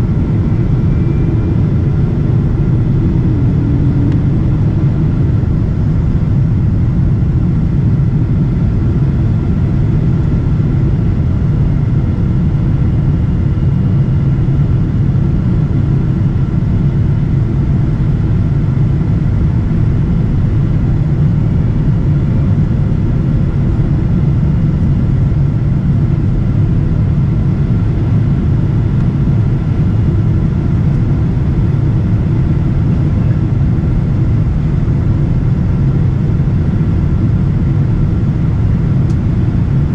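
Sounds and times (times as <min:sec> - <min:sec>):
faint steady whine: 0:00.0 - 0:39.9
low rumble of engines and airflow: 0:00.0 - 0:39.9.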